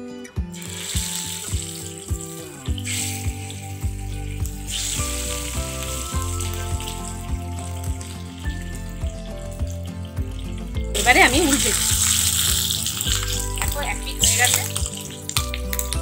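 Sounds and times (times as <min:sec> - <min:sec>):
background music with steady beat: 0:00.0 - 0:16.0
fish sizzling in oil: 0:00.5 - 0:16.0.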